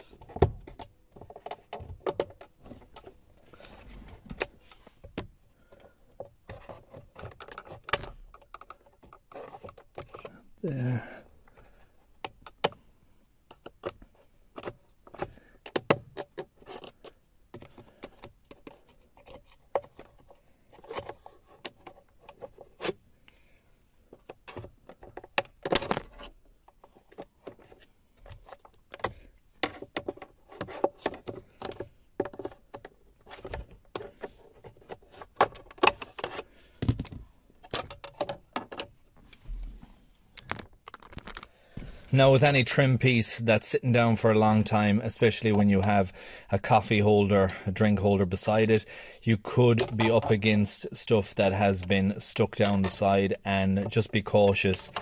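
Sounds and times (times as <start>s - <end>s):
plastic trim scraping: 0.0s - 12.8s, 13.5s - 42.6s, 48.4s - 55.0s.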